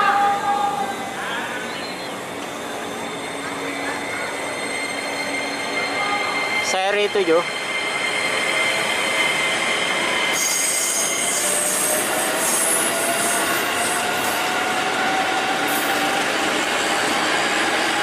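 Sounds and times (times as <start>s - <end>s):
high wheel squeal: 0.0s - 16.1s
electric train running past: 0.0s - 18.0s.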